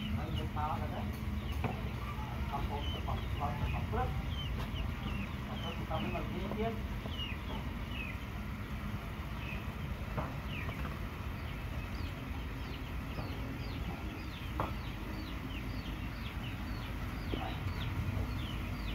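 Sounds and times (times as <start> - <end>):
chickens chirping: 0.0 - 18.9
low steady rumble: 0.0 - 18.9.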